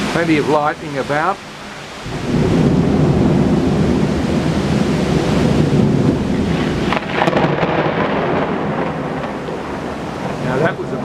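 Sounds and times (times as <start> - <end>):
thunder rumbling: 1.8 - 11.0
thunder cracks: 2.0 - 11.0.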